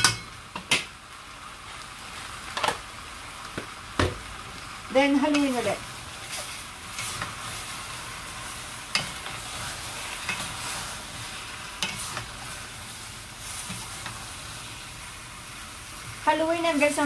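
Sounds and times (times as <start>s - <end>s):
food sizzling in a pot: 0.0s - 17.0s.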